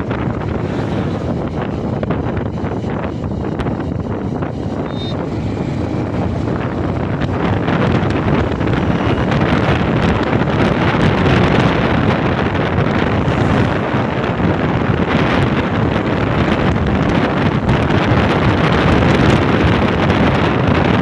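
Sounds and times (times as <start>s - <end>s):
motorcycle engine: 0.0s - 21.0s
wind rushing over microphone: 0.0s - 21.0s.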